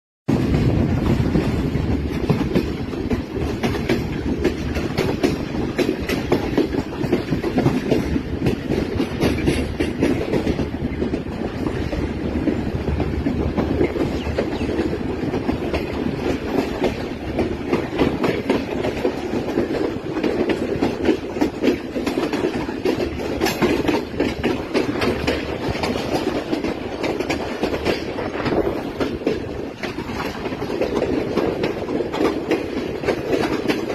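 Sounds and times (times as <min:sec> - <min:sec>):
train wheels rumbling: 0:00.3 - 0:33.9
wheels clattering over rail joints: 0:00.3 - 0:33.9.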